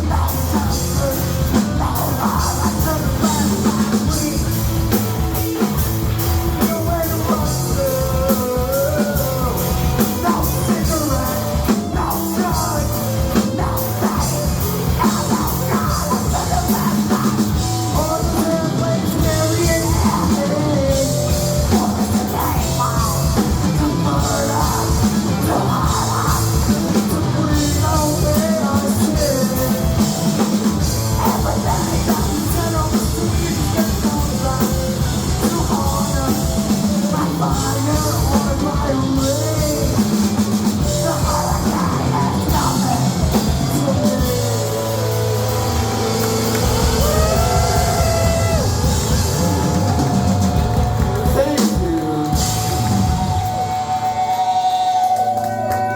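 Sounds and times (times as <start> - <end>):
rock song with drums and singing: 0.0 - 55.9.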